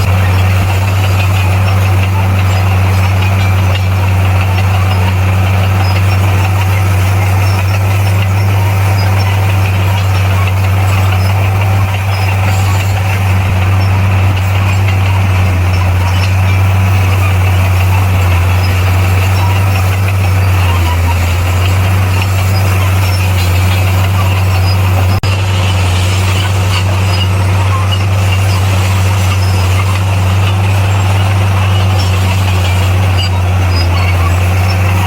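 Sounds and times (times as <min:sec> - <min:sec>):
bulldozer diesel engine running: 0:00.0 - 0:35.0
mechanical rattling: 0:00.0 - 0:35.0.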